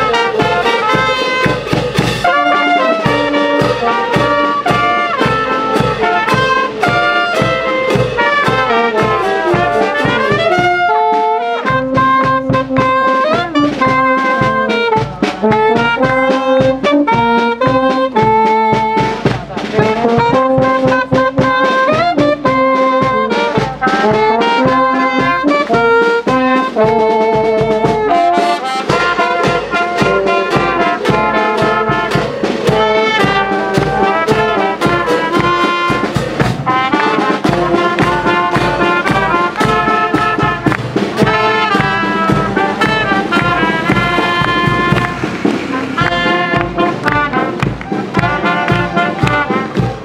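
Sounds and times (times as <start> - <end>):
brass band playing: 0.0 - 50.0
percussive strikes: 0.0 - 50.0.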